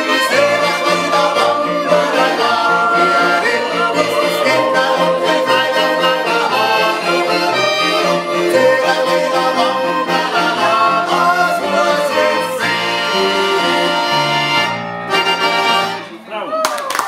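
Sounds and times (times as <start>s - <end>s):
button accordion: 0.0s - 16.2s
diatonic accordion: 0.0s - 16.2s
double bass line: 0.0s - 16.2s.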